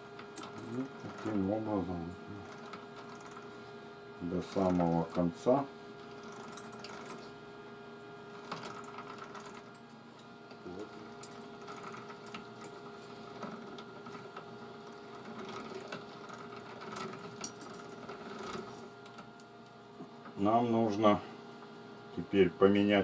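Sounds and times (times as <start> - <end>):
small electric motor humming: 0.0 - 19.5.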